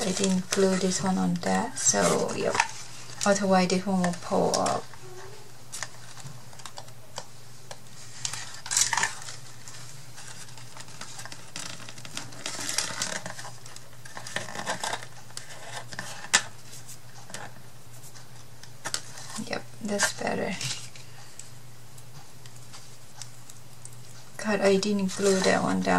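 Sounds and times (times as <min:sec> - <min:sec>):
paper rustling: 0:00.0 - 0:07.0, 0:07.7 - 0:21.4, 0:22.2 - 0:25.9.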